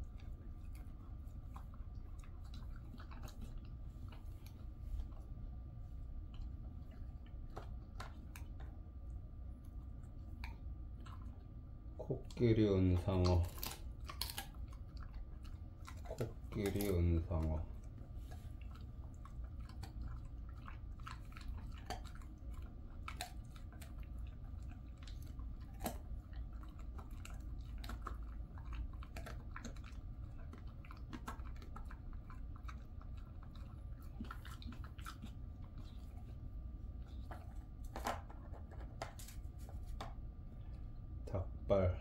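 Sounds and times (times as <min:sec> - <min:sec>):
dog chewing crunches: 0:00.0 - 0:40.2
steady low hum: 0:00.0 - 0:42.0.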